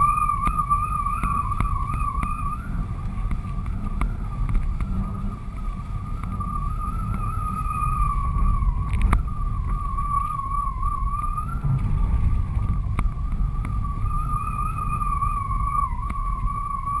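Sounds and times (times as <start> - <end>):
wind rushing with whistle: 0.0 - 17.0.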